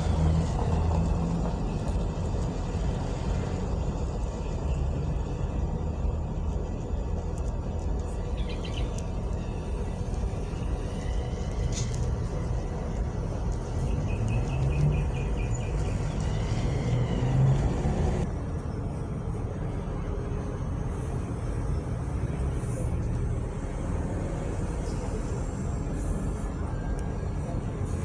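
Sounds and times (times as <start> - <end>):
road vehicles rumbling: 0.0 - 28.0.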